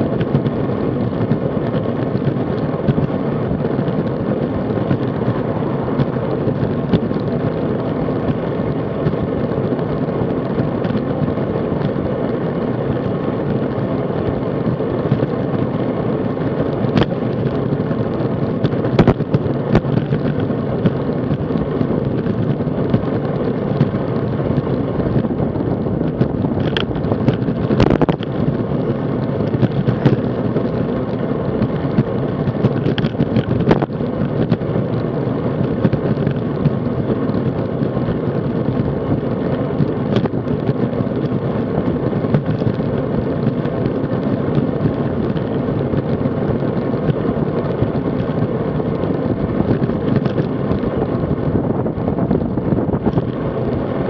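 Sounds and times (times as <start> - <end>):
road rumble: 0.0 - 54.0
wind buffeting microphone: 0.0 - 54.0.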